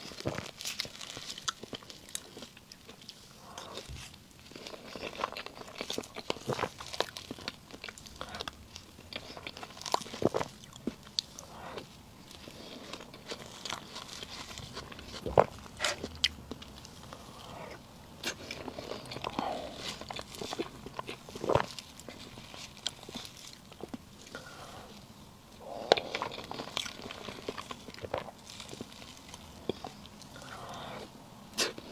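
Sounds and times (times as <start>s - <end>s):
person chewing soft cake: 0.0s - 31.9s.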